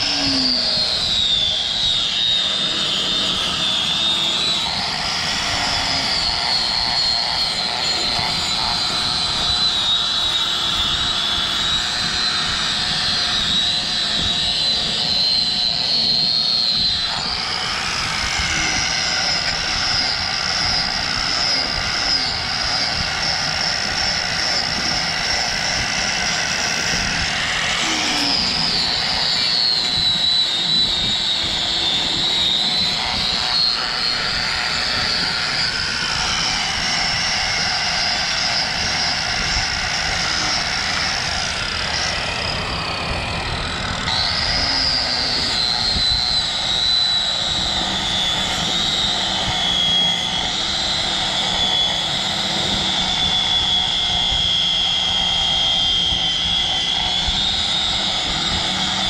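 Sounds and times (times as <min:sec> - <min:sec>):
angle grinder shaving rubber: 0:00.0 - 0:59.0.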